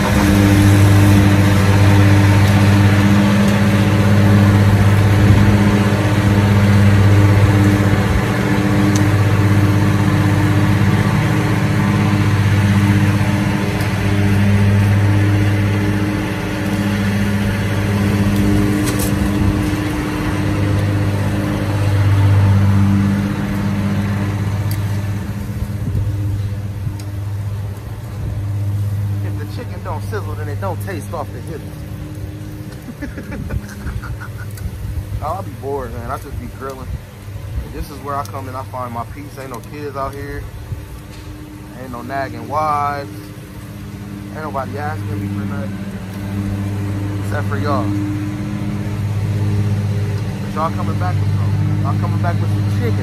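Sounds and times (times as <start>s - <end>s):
lawn mower engine running: 0.0s - 53.0s.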